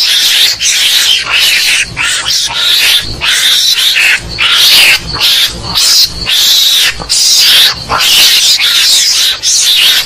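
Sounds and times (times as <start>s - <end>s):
mongoose screeching: 0.0s - 10.0s.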